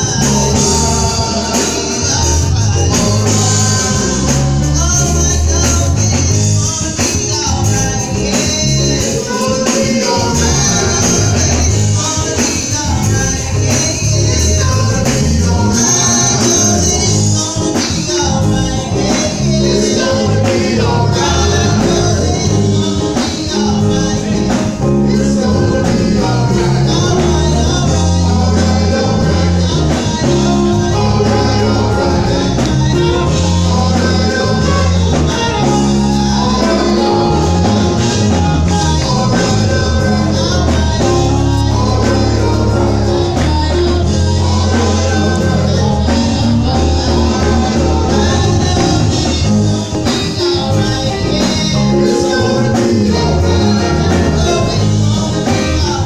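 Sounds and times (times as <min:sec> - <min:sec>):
amplified instrumental backing: 0:00.0 - 0:56.0
bass line: 0:00.0 - 0:56.0
gospel group singing: 0:00.0 - 0:56.0.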